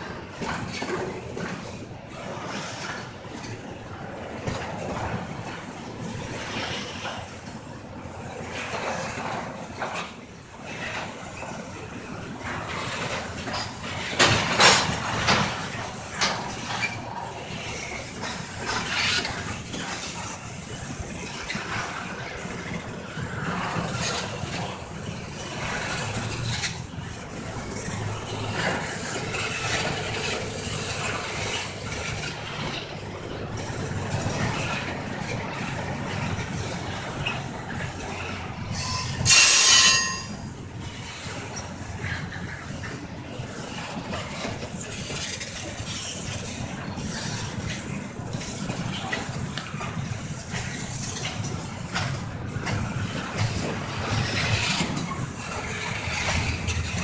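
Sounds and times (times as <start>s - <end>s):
freight train rolling past: 0.0s - 57.0s
train wheel squeal: 0.0s - 57.0s
wheels clacking over rails: 0.0s - 57.0s.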